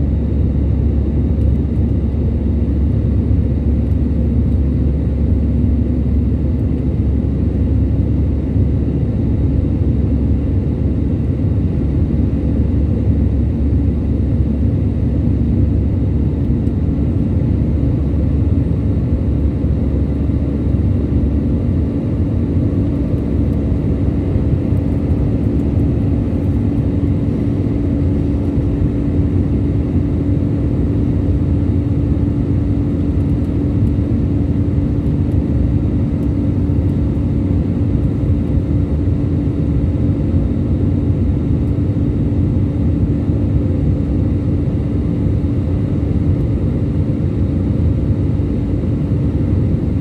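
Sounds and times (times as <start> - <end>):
aircraft cabin engine drone: 0.0 - 50.0
constant hum: 0.0 - 50.0.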